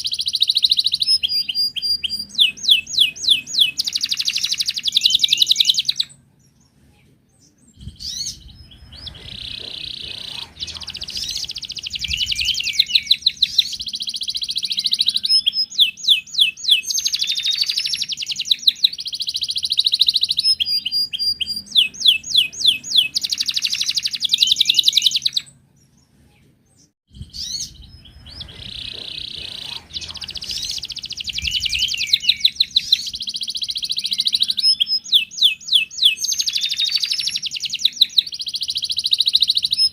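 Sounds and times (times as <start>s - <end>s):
canary singing trills: 0.0s - 26.1s, 26.7s - 39.9s.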